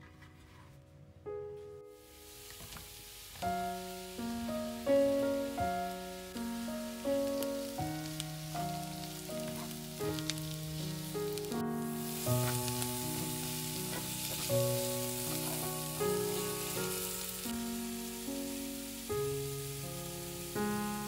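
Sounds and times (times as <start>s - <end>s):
gentle piano music: 0.0s - 21.0s
food sizzling in hot oil: 2.0s - 21.0s.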